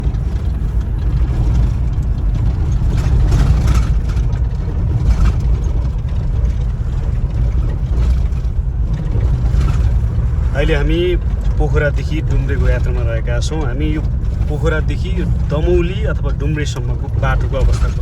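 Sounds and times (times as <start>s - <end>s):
vehicle rumbling on road: 0.0s - 18.0s.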